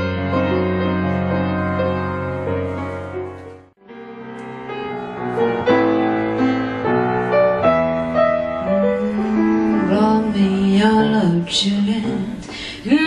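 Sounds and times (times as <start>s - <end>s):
grand piano playing: 0.0s - 12.4s.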